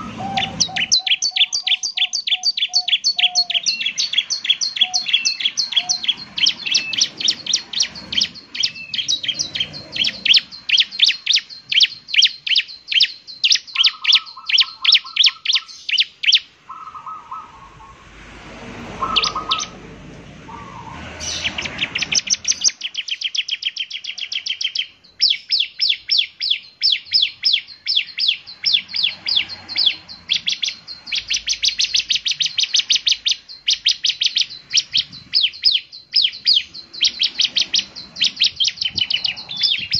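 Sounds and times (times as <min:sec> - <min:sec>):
bird singing high repeated notes: 0:00.0 - 0:18.1, 0:18.9 - 0:19.8, 0:20.5 - 0:39.9.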